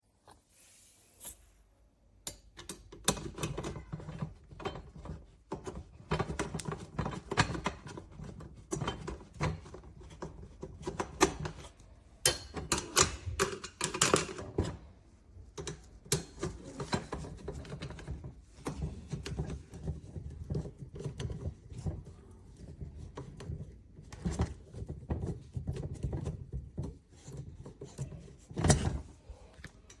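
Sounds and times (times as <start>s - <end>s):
folding table clicking and rattling: 2.5s - 14.9s, 15.5s - 29.2s.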